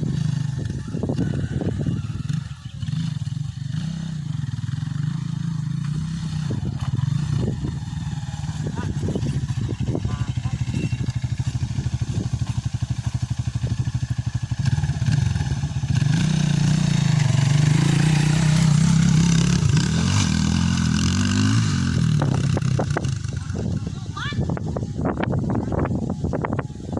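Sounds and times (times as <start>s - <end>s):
dirt bike engine pulsing: 0.0s - 26.9s.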